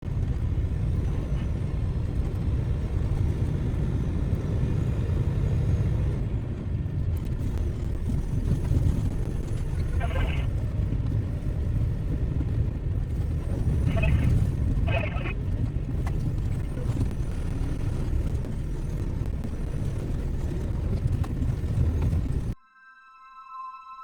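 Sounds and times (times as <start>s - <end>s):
road noise: 0.0s - 22.6s
truck diesel engine drone: 0.0s - 22.6s.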